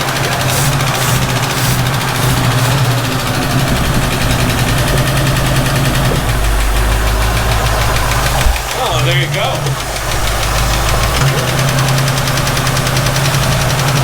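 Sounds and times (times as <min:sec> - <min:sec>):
car engine idling: 0:00.0 - 0:14.0
engine valve ticking: 0:00.0 - 0:14.0.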